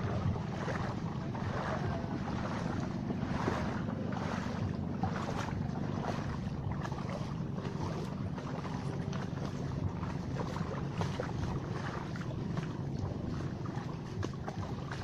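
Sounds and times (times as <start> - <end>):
feet splashing through water: 0.0 - 15.0
wind rumble on microphone: 0.0 - 15.0.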